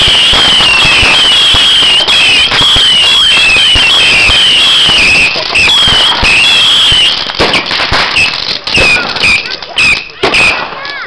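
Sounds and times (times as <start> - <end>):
short curling whistles: 0.0 - 10.7
high fireworks whistle: 0.0 - 10.9
fireworks bangs: 0.0 - 11.0.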